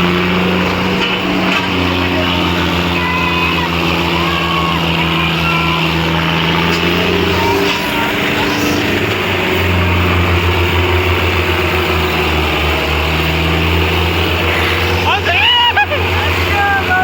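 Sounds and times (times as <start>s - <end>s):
diesel tractor engines under load: 0.0s - 17.0s.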